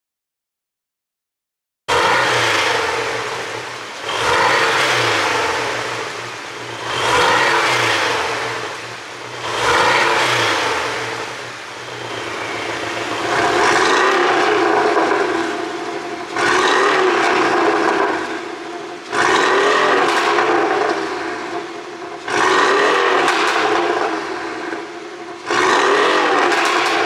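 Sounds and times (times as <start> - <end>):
car engine revving: 1.9 - 27.0.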